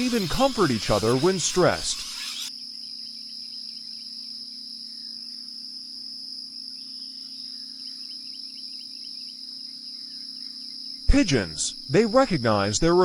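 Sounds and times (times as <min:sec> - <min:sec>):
crickets trilling: 0:02.0 - 0:13.0.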